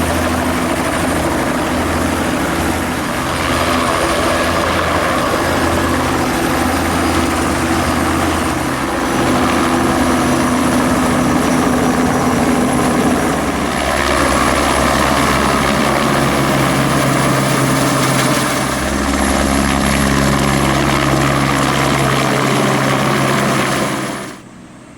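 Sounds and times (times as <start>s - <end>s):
helicopter rotor beat: 0.0s - 24.9s
high turbine whine: 0.0s - 24.9s.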